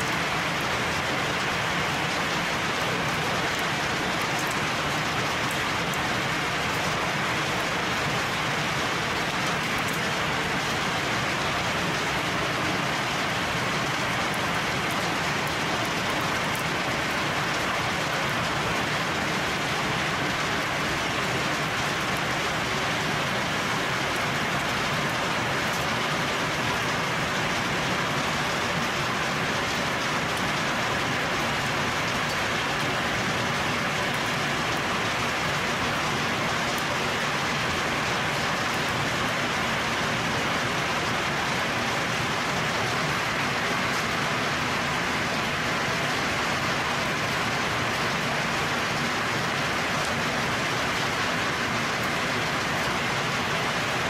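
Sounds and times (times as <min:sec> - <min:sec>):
heavy rain on tree leaves: 0:00.0 - 0:54.0.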